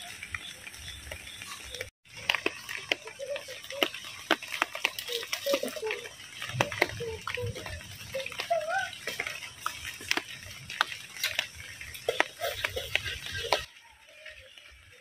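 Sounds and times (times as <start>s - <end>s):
wavering calls: 1.4s - 14.8s.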